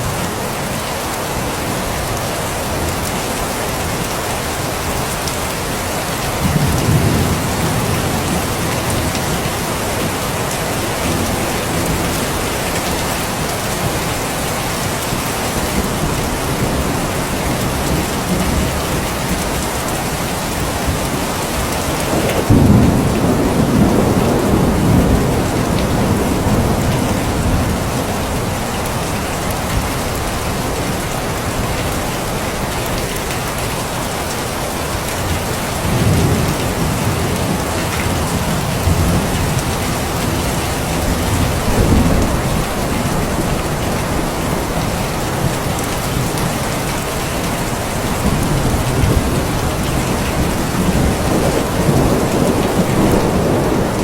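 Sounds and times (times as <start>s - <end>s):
heavy rain falling: 0.0s - 54.0s
thunder rumbling: 6.4s - 14.2s, 14.9s - 31.6s, 35.3s - 54.0s.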